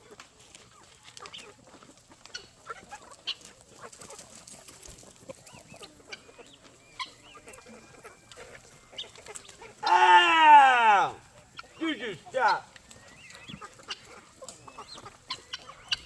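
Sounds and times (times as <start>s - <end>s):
chickens clucking softly: 0.0s - 10.0s, 11.2s - 16.0s.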